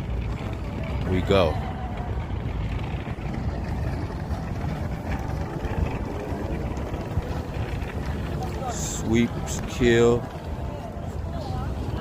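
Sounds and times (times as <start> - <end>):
traffic rumble: 0.0 - 12.0
wind buffeting microphone: 0.0 - 12.0.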